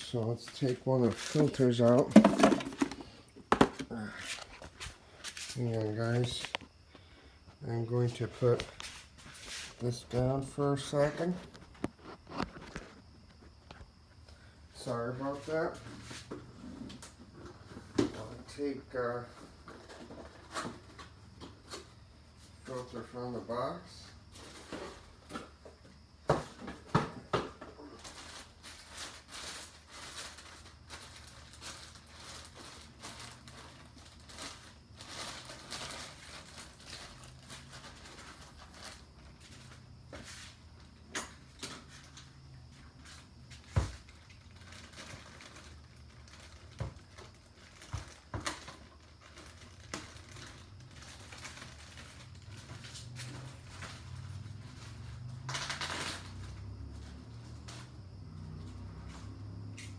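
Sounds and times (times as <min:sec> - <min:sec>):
parts and packaging handled: 0:00.1 - 0:06.8, 0:14.8 - 0:58.0.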